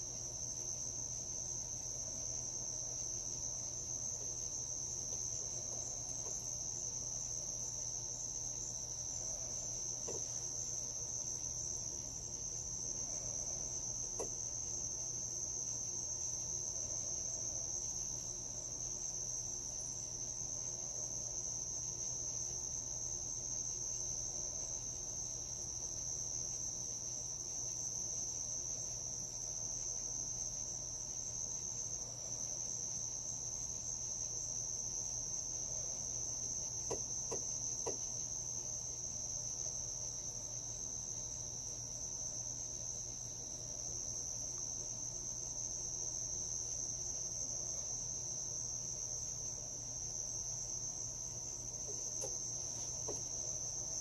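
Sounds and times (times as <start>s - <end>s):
crickets chirping: 0.0s - 54.0s
faint steady low hum: 0.0s - 54.0s.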